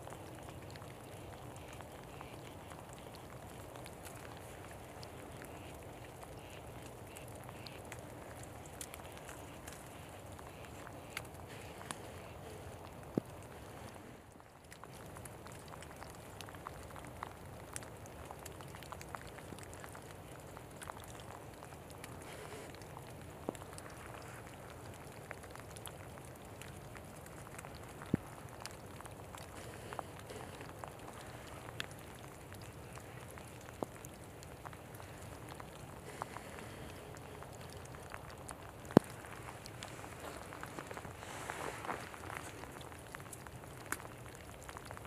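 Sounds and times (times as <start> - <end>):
water drops ticking: 0.0 - 41.2.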